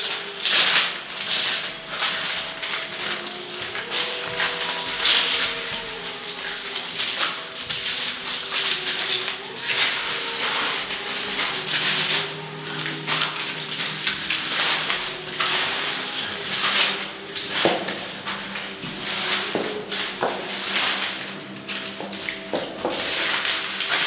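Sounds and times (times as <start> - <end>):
paper notes rustling and crumpling: 0.0 - 24.0.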